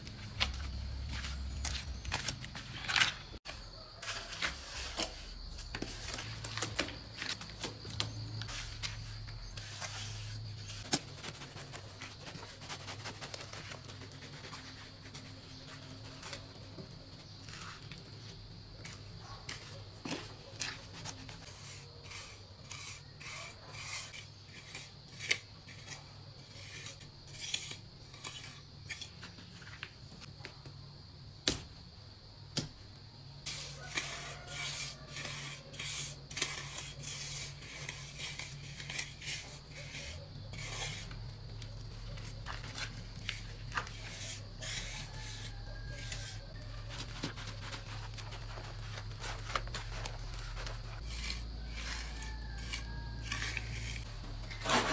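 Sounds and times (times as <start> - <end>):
trowel scraping wet cement: 0.4 - 16.4, 20.0 - 29.2, 33.5 - 54.9.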